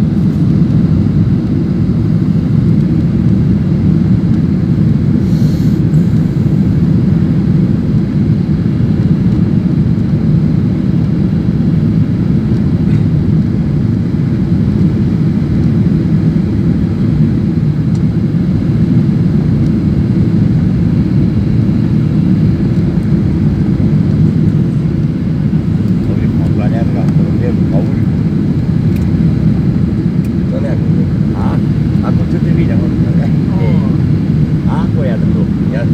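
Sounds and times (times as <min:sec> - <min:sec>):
airliner cabin drone: 0:00.0 - 0:35.9.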